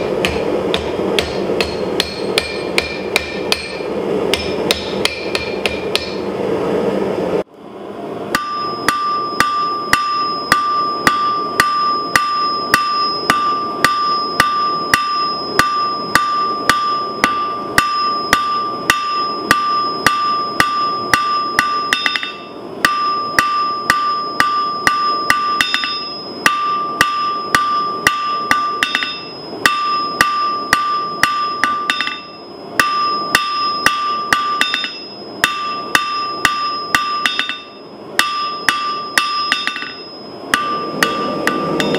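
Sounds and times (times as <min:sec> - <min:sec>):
anvil ringing: 0:00.0 - 0:06.3, 0:08.3 - 0:41.9
hammer blows on hot steel: 0:08.3 - 0:41.9.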